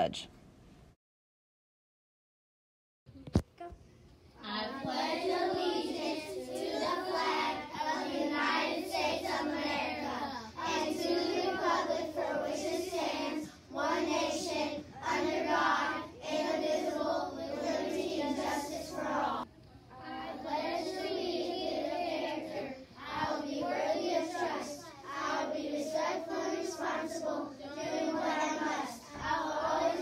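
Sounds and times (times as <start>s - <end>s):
children reciting in unison: 4.4s - 30.0s.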